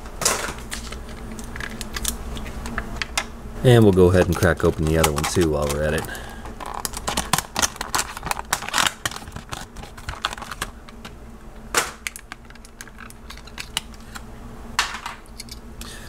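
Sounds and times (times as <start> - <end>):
plastic package clicking and crackling: 0.6 - 11.2, 11.8 - 14.2.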